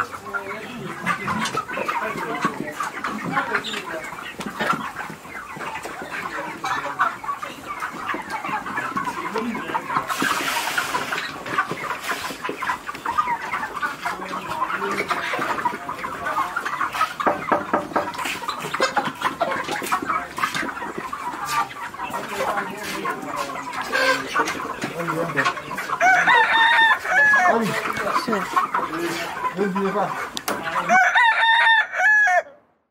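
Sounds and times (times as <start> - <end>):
flock of chickens clucking: 0.0 - 32.9.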